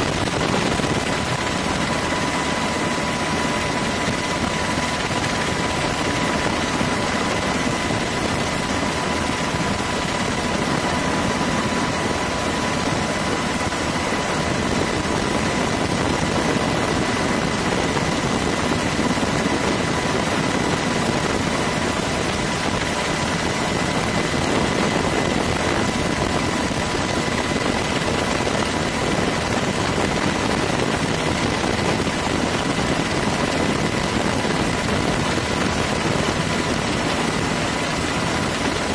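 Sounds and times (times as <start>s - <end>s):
aircraft engine and rotor noise: 0.0s - 38.9s
constant high whine: 0.0s - 38.9s.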